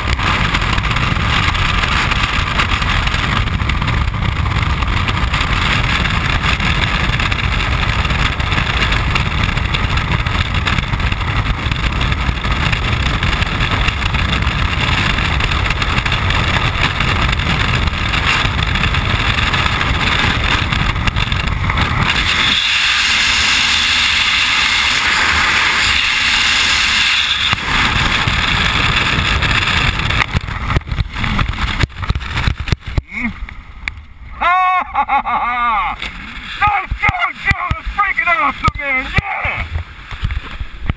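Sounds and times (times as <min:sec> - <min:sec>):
wind buffeting a microphone: 0:00.0 - 0:40.9.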